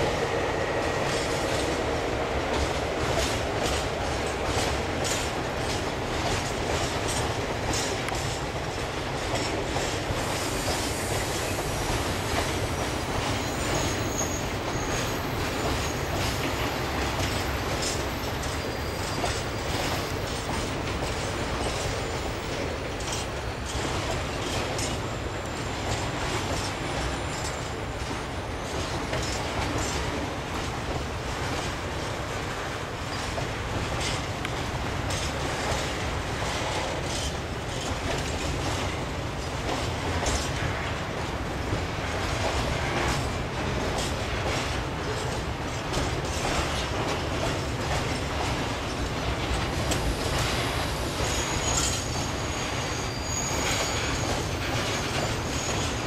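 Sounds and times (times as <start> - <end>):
train wheels rumbling on rails: 0.0 - 56.0
wheels clicking over rail joints: 2.4 - 56.0.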